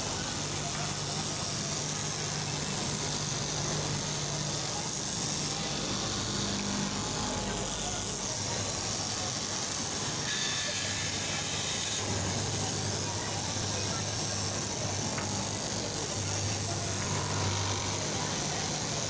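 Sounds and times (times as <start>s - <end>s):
cloth cutting machine buzzing: 0.0s - 19.0s.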